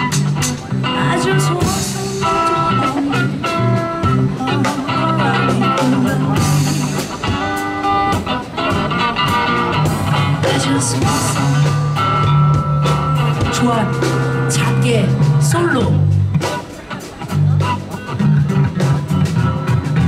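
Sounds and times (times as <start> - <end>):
drum kit: 0.0 - 20.0
electric bass walking line: 0.0 - 20.0
melodic notes: 0.0 - 20.0.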